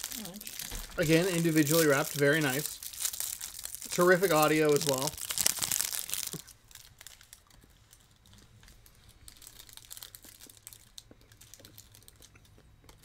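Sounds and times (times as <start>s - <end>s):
candy wrapper crinkling: 0.0s - 13.0s.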